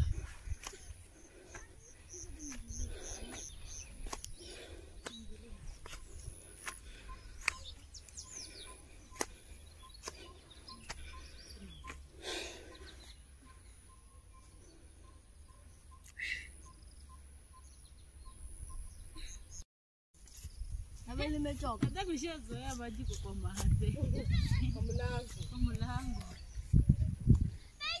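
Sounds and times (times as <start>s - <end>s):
birds chirping: 0.0s - 19.6s, 20.4s - 28.0s.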